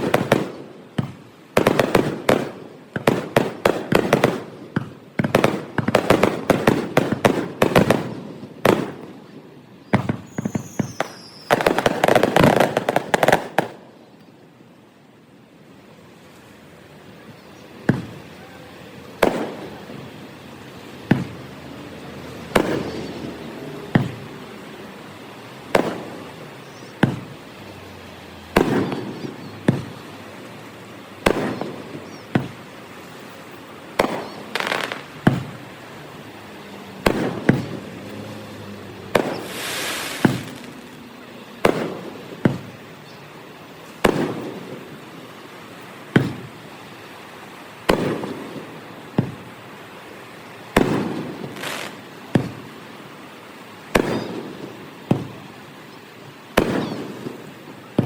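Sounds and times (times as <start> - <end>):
fireworks bangs: 0.0 - 14.3, 17.2 - 47.2, 47.8 - 49.7, 50.5 - 52.9, 53.8 - 58.0
fireworks crackling hiss: 0.0 - 58.0.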